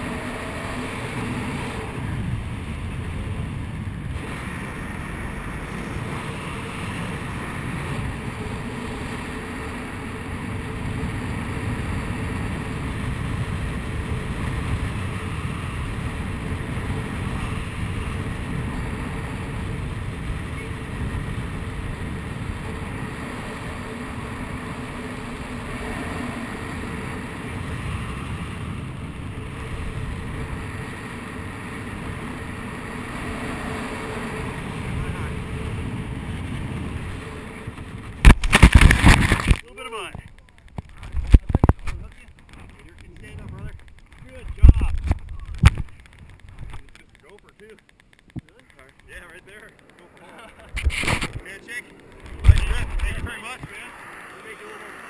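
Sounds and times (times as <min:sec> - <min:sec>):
wind rushing over microphone: 0:00.0 - 0:47.0, 0:50.5 - 0:55.0.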